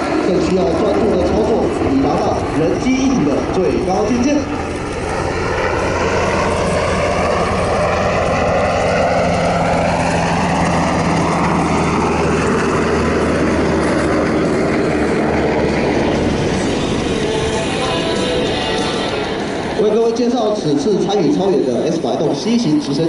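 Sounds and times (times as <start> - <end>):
helicopter rotor and turbine: 0.0 - 23.0.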